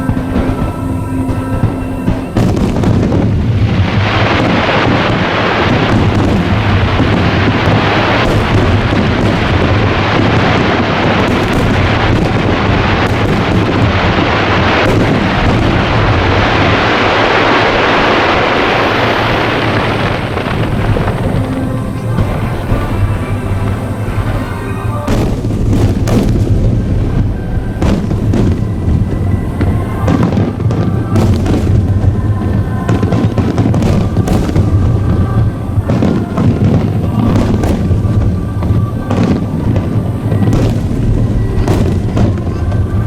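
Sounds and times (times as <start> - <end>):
fireworks booming and crackling: 0.0 - 43.0
low rumble: 0.0 - 43.0.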